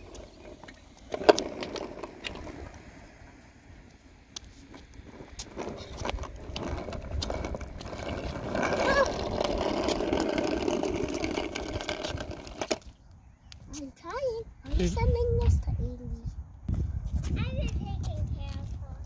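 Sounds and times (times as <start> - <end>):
skateboard wheels rolling on asphalt: 0.0 - 15.5.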